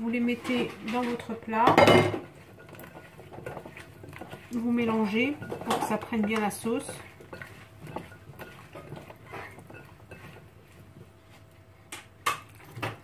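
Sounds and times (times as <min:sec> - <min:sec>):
wet shuffling of potatoes: 0:00.0 - 0:13.0.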